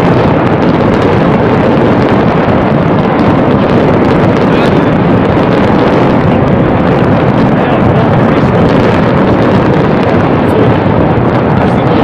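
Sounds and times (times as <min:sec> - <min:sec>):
fireworks continuous roar: 0:00.0 - 0:12.0
wind buffeting microphone: 0:00.0 - 0:12.0.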